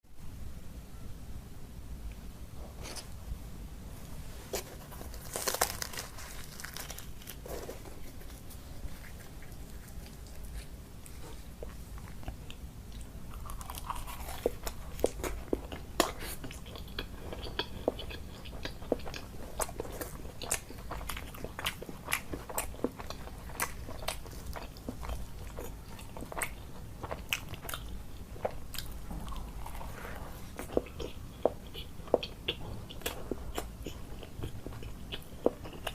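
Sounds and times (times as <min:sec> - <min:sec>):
person chewing food: 0:04.6 - 0:35.9.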